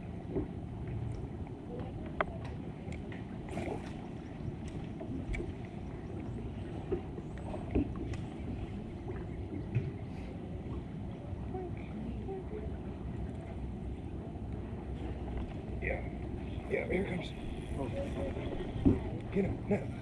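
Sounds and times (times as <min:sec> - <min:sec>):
wind and water rumble: 0:00.0 - 0:20.0.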